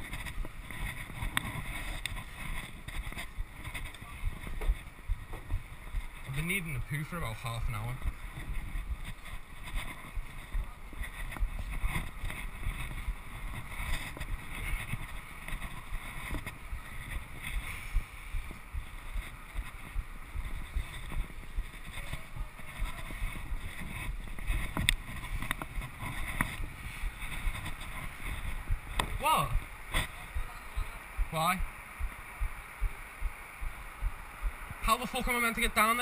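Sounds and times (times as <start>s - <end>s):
wind gusting on microphone: 0.0s - 36.0s.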